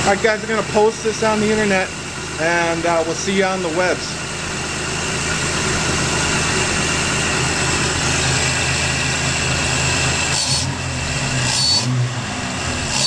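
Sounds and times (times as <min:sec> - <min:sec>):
car engine idling: 0:00.0 - 0:13.0
engine throttle blips: 0:00.0 - 0:13.0.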